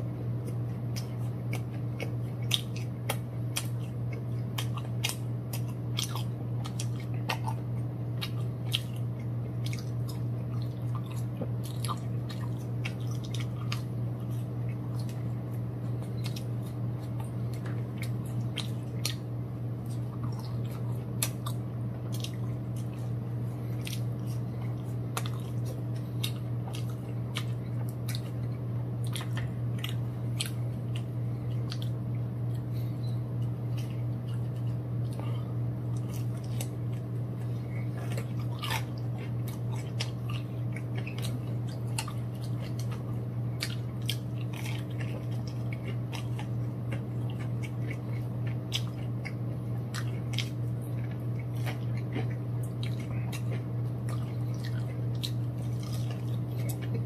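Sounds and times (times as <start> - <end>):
crunchy chewing: 0.0 - 57.0
low hum: 0.0 - 57.0.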